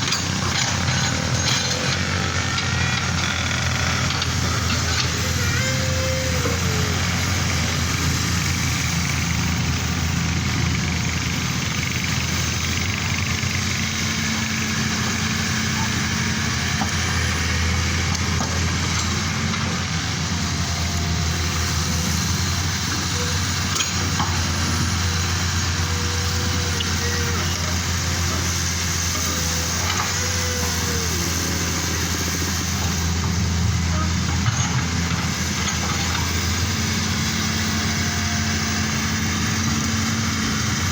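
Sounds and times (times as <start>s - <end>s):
heavy equipment engines droning: 0.0s - 40.9s.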